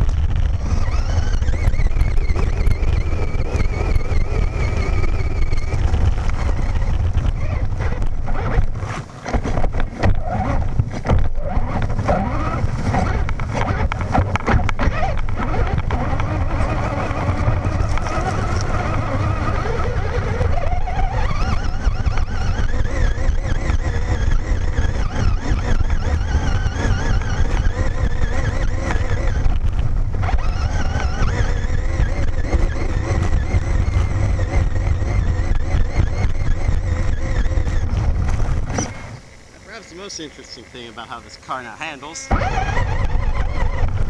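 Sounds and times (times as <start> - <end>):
electric motor whining: 0.0 - 44.0.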